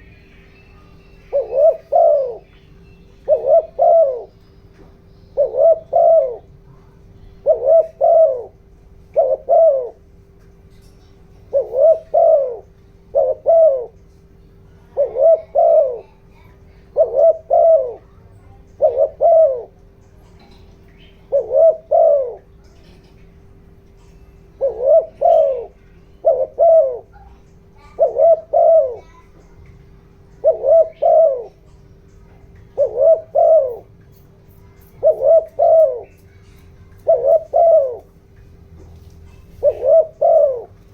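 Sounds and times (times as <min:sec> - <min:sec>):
dove cooing: 0:00.0 - 0:10.4, 0:11.2 - 0:40.9
faint steady hum: 0:00.0 - 0:40.9.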